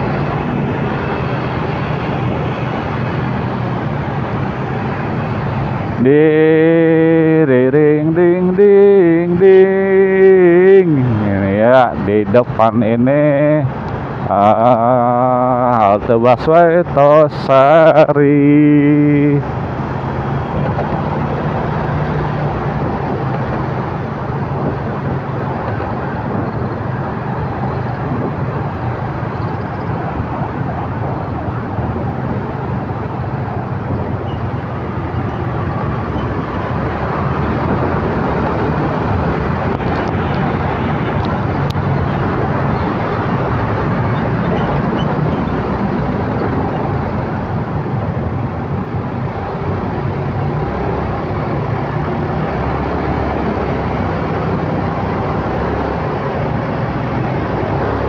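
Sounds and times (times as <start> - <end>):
motorcycle engine hum: 0.0 - 17.4, 18.4 - 58.0
road traffic noise: 0.0 - 58.0.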